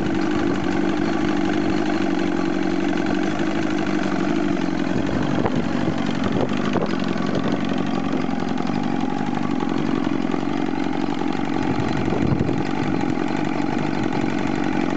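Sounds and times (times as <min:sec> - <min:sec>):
outboard motor idling: 0:00.0 - 0:14.9.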